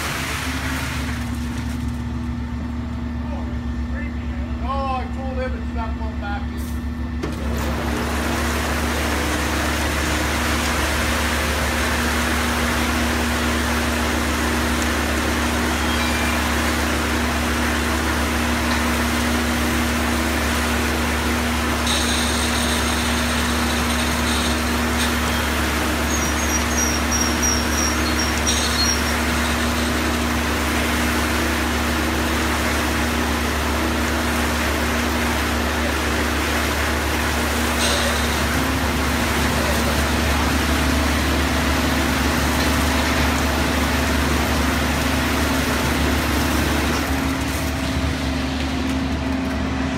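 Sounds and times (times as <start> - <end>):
truck engine droning: 0.0 - 49.9.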